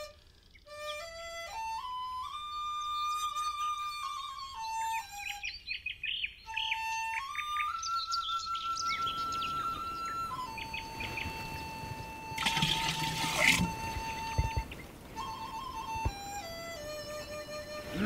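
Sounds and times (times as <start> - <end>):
slow flute melody: 0.0 - 5.8, 6.4 - 18.0
birds chirping: 0.0 - 18.0.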